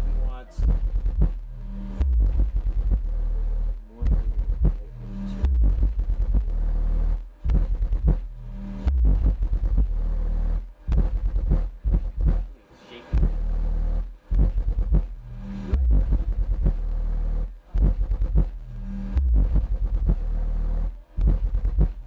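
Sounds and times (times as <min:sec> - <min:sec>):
subwoofer playing deep bass: 0:00.0 - 0:22.0.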